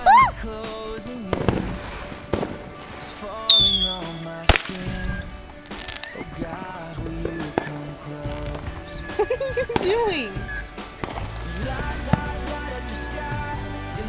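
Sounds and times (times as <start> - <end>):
music: 0.0 - 14.0
fireworks bangs: 0.3 - 12.7.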